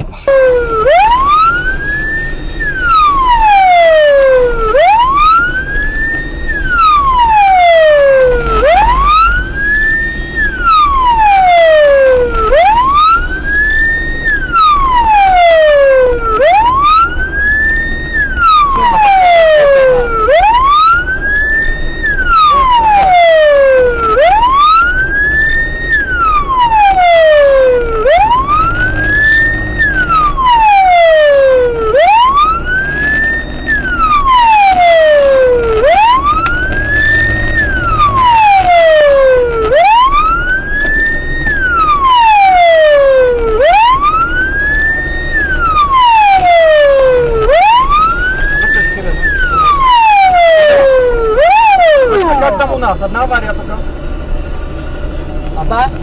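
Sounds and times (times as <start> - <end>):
police siren wailing: 0.0 - 56.0
road and engine rumble: 0.0 - 56.0.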